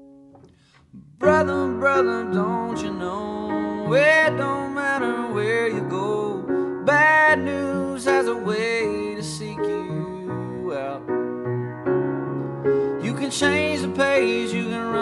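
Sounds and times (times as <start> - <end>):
piano and other instruments: 0.0 - 15.0
person singing: 0.9 - 11.2, 12.8 - 15.0.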